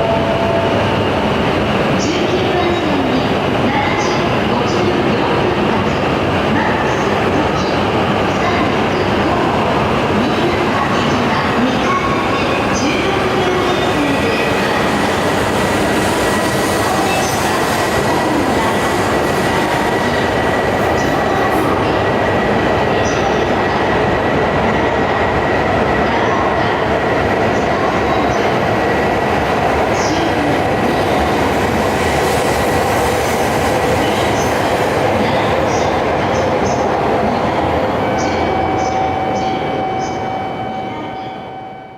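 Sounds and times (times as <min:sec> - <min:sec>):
train wheels and air noise: 0:00.0 - 0:40.6.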